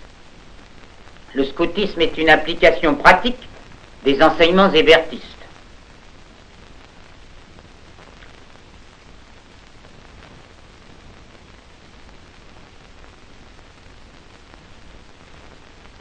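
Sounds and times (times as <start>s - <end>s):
faint crackles: 0.0s - 16.0s
film soundtrack hiss: 0.0s - 16.0s.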